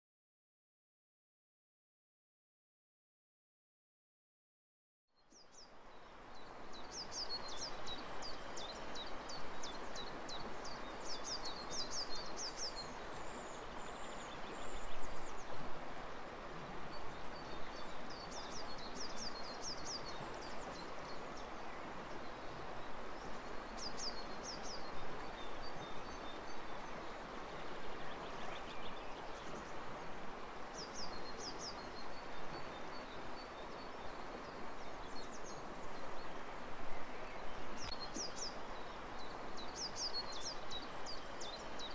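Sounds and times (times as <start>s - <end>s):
songbird singing: 5.2s - 15.6s, 16.9s - 41.9s.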